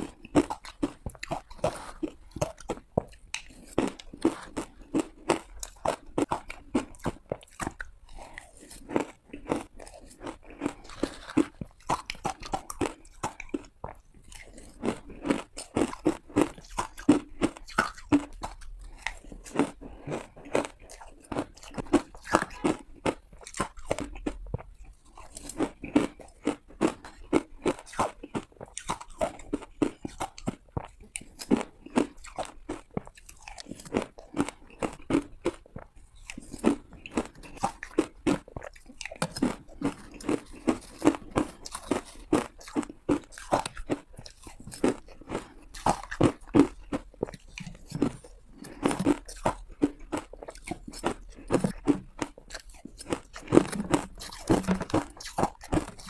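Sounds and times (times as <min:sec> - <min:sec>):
ice being crunched and chewed: 0:00.0 - 0:56.0.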